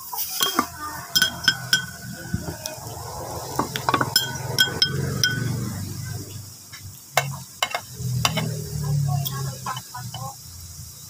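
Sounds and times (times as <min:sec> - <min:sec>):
soda fizzing: 0:00.0 - 0:11.0.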